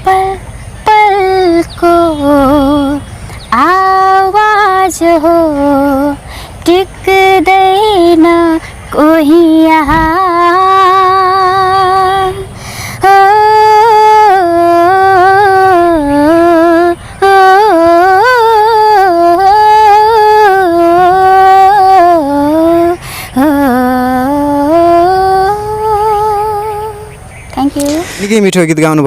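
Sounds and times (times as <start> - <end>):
girl singing unaccompanied: 0.0 - 28.2.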